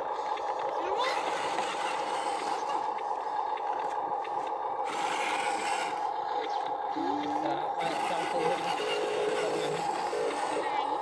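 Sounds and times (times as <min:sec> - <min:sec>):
toy truck motor whine: 0:00.0 - 0:11.0.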